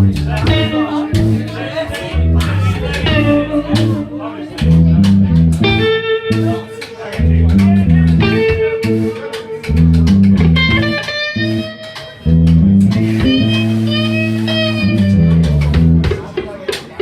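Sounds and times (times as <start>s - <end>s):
electric guitar bending notes: 0.0s - 16.2s
bass guitar line: 0.0s - 16.3s
live band playing blues riff: 0.0s - 17.0s.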